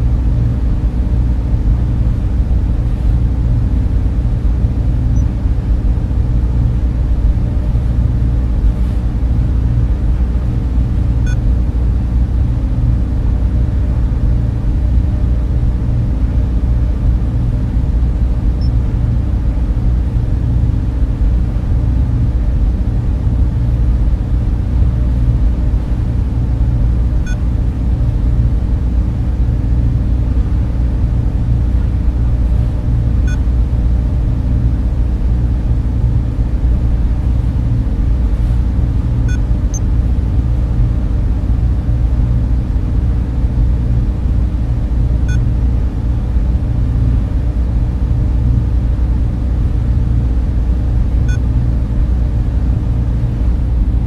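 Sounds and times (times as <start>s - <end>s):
servers and cooling fans humming: 0.0s - 54.0s.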